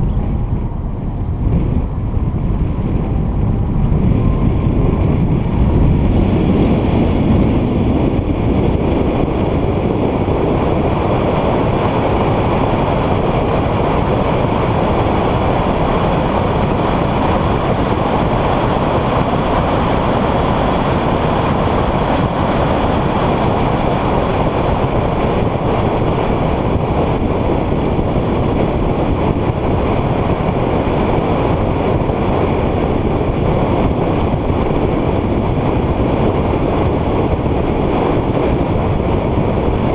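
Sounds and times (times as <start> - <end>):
car driving at speed: 0.0 - 39.9.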